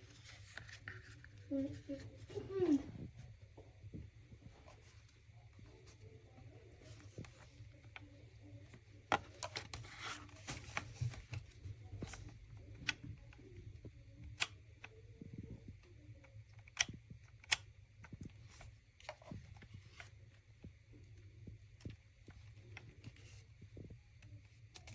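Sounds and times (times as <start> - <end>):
faint low hum: 0.0 - 24.9.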